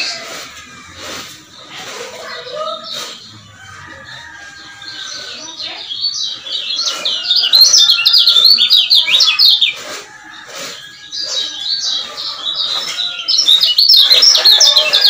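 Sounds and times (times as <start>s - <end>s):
bird singing high chirps: 1.5s - 9.8s, 10.9s - 15.0s.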